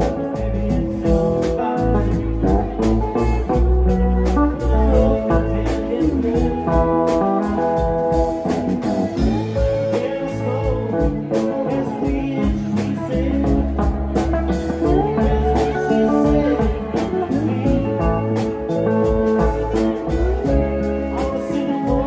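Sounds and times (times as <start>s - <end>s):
drum kit beat: 0.0s - 22.0s
electric guitar: 0.0s - 22.0s
keyboards: 0.0s - 22.0s.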